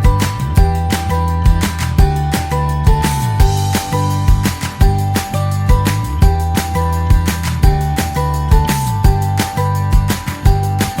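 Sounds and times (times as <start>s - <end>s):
bass: 0.0s - 11.0s
drum beat: 0.0s - 11.0s
held melody notes: 0.0s - 11.0s.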